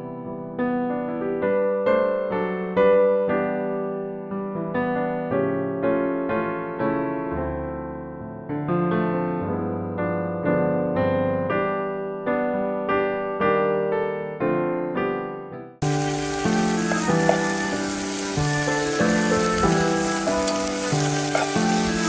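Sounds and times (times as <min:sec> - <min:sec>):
electric piano melody: 0:00.0 - 0:22.0.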